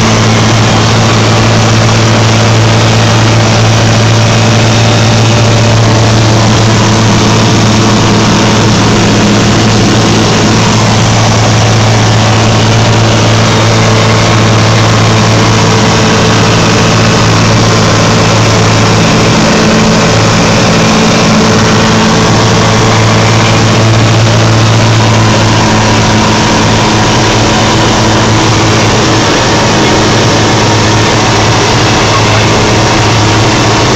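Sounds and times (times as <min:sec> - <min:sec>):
aircraft engine and propeller: 0:00.0 - 0:33.9.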